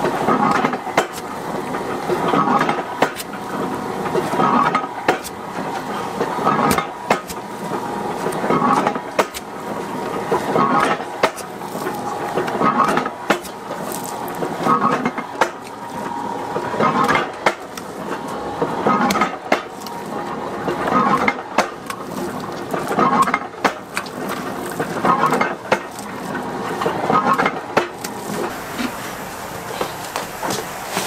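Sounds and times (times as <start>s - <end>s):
machine clicks and clatter: 0.0s - 28.5s
pestle pounding dough in stone mortar: 0.0s - 28.5s.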